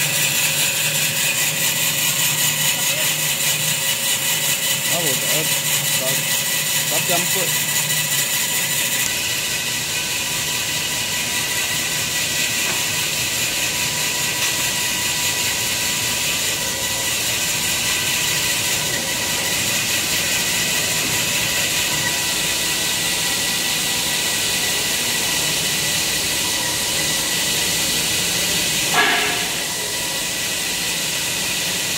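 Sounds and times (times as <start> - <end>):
workshop machinery hiss: 0.0 - 31.9.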